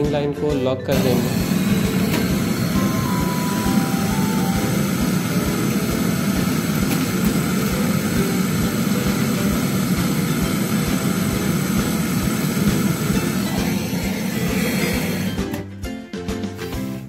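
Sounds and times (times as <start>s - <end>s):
torch flame burning: 1.0s - 15.6s.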